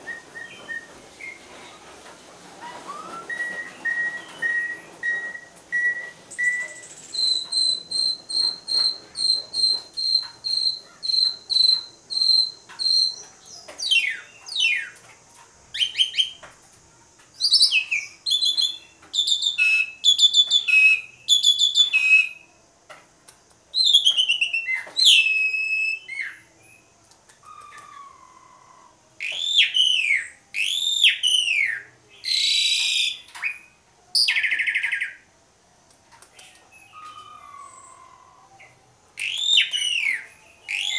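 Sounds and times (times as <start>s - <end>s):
starling singing: 2.7s - 15.0s, 17.4s - 22.4s, 23.7s - 35.2s, 36.4s - 40.9s.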